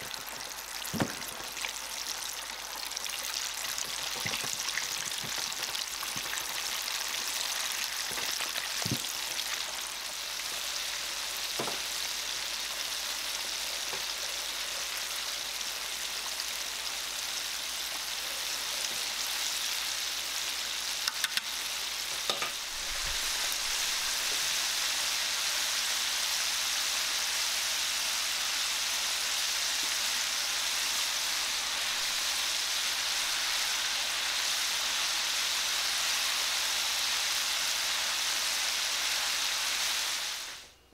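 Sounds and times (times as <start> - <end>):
chicken sizzling in hot oil: 0.0 - 40.7.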